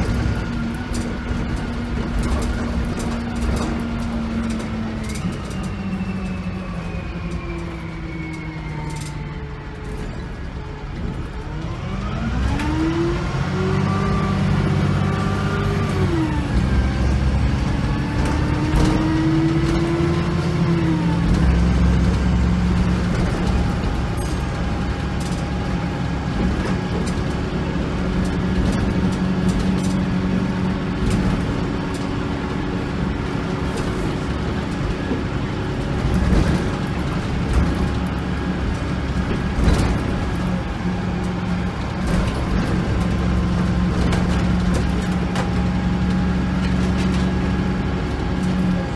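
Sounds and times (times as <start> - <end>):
bus engine whining: 0.0 - 48.9.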